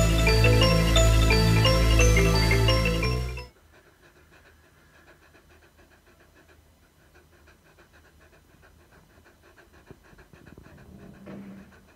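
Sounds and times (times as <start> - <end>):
dog panting: 0.0 - 11.9.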